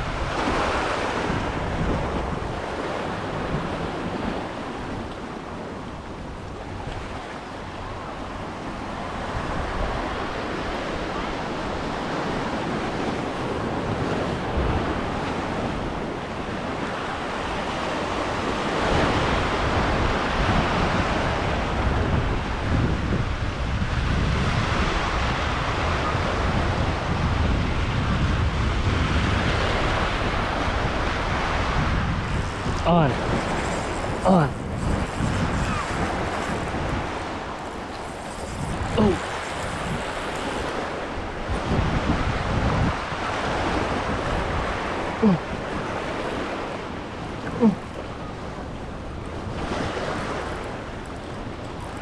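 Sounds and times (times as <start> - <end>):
surf washing over rocks: 0.0 - 52.0
wind buffeting microphone: 0.0 - 52.0.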